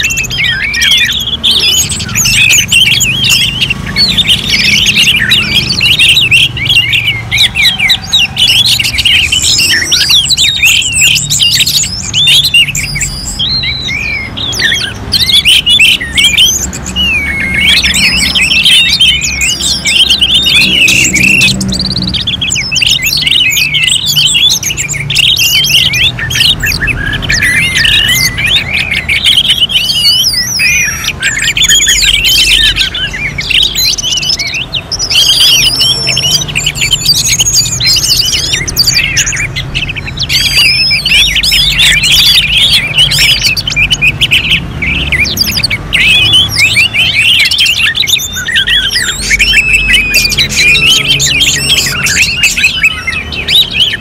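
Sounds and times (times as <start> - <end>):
thrushes singing: 0.0 - 54.0.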